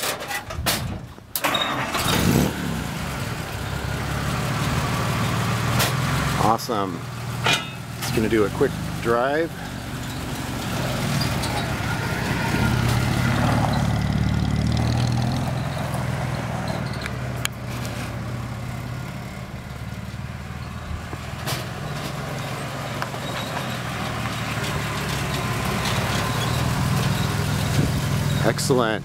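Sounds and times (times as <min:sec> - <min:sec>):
truck engine driving past: 0:01.7 - 0:29.0.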